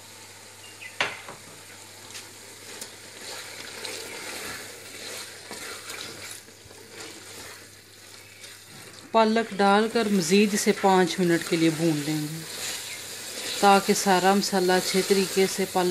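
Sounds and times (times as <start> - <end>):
food sizzling in hot oil: 0.0 - 15.9
wooden spatula scraping pot: 2.7 - 15.9.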